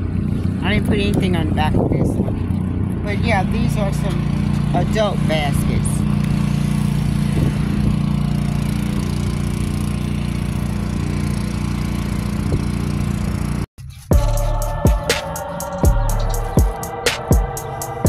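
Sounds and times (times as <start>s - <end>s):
engine running with low hum: 0.0s - 18.0s.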